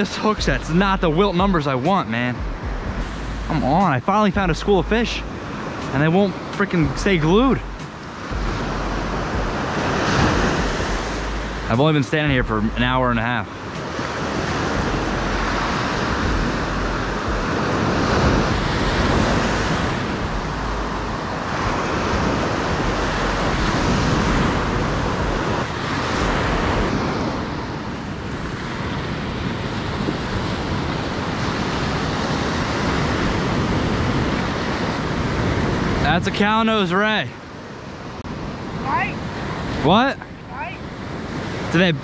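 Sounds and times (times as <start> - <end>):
wind rumble on microphone: 0.0 - 36.6
ocean surf breaking on sand: 0.0 - 42.0.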